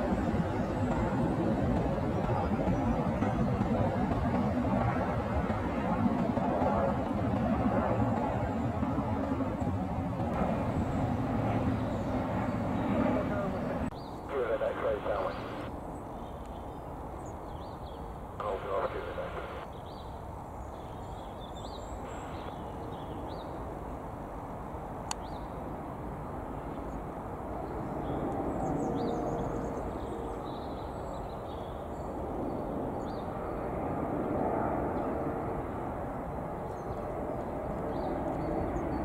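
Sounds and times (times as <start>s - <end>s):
jet airliner rumble and hiss: 0.0s - 16.0s, 16.8s - 39.0s.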